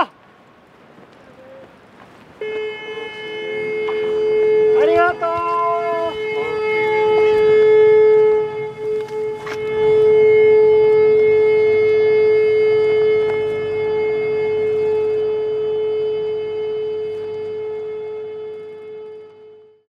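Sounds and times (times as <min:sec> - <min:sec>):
boat horn blasts: 0:01.6 - 0:19.9.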